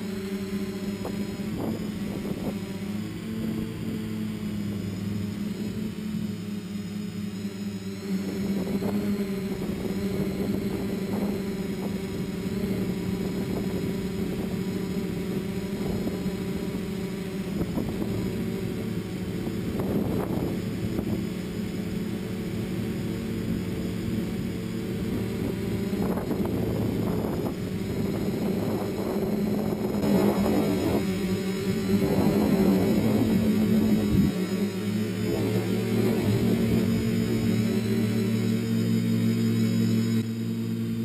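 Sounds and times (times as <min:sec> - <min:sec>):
drone propellers buzzing: 0:00.0 - 0:41.0.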